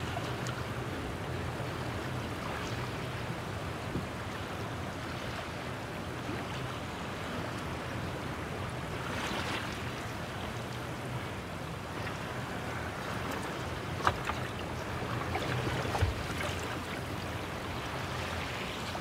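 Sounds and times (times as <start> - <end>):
water lapping against a hull: 0.0 - 19.0
wind: 0.0 - 19.0.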